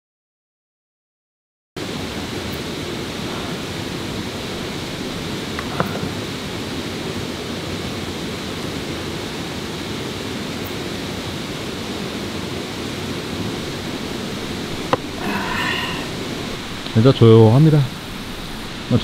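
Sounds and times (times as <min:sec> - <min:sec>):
steady rushing ambient noise: 0:01.8 - 0:19.0.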